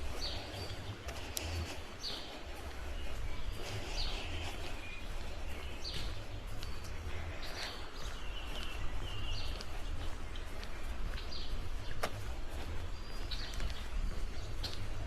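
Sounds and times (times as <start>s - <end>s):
birds singing whistled notes: 0.0s - 15.0s
wind rumble on microphone: 0.0s - 15.0s.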